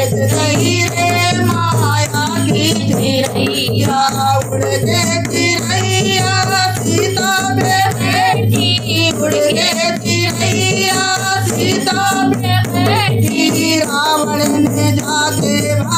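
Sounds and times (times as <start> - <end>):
hand drum beat: 0.0 - 15.9
woman singing devotional song: 0.0 - 15.9.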